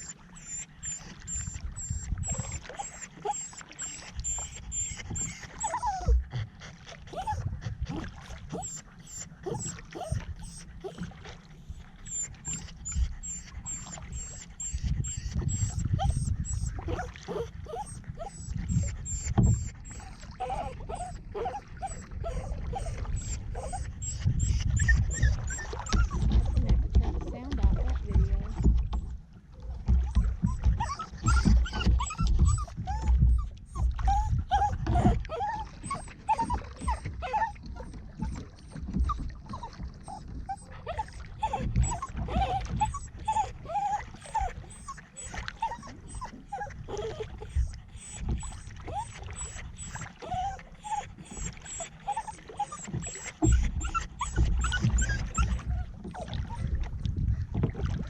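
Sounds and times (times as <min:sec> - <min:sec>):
dog whining and whimpering: 0:00.0 - 0:26.6, 0:30.1 - 0:56.7
low rumbling of kayak on water: 0:00.0 - 0:58.0.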